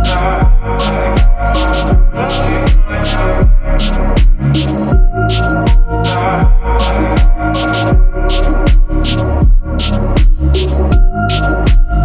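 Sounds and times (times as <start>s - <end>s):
deep kick drum: 0.0s - 12.0s
electronic dance music: 0.0s - 12.0s.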